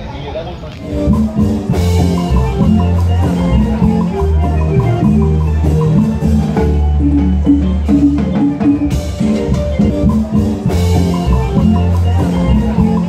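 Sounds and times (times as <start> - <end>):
electronic keyboard music: 0.8 - 13.0.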